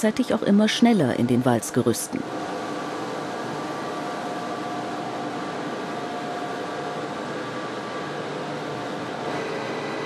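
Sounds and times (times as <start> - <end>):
faint machine whines: 0.0 - 10.0.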